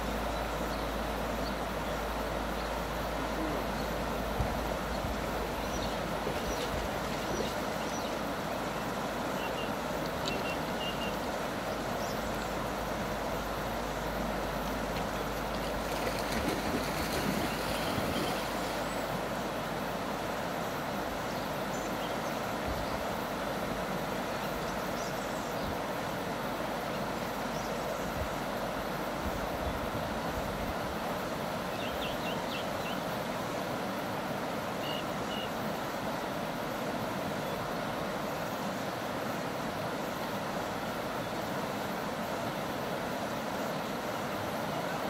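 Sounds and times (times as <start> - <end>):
river flowing: 0.0 - 45.0.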